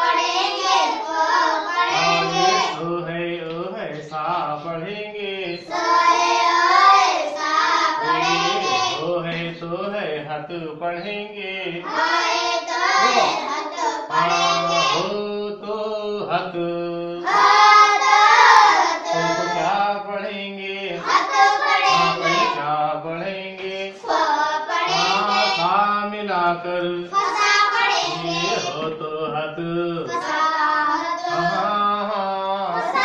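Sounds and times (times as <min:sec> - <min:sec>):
person chanting sing-song: 0:00.0 - 0:33.0.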